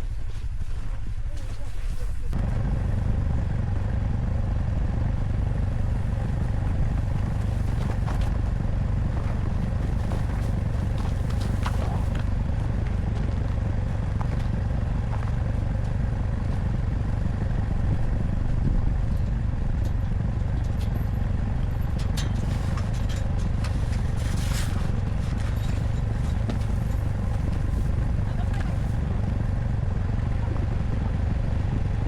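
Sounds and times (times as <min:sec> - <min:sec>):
engine rumbling: 0:00.0 - 0:32.0.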